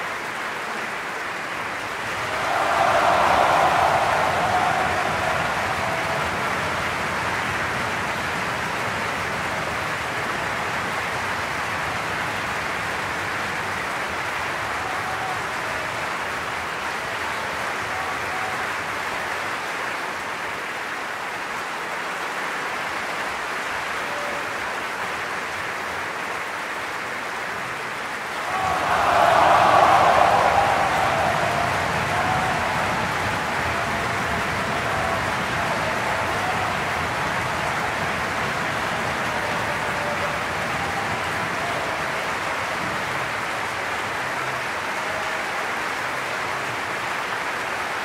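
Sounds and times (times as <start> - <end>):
audience applauding: 0.0 - 48.0.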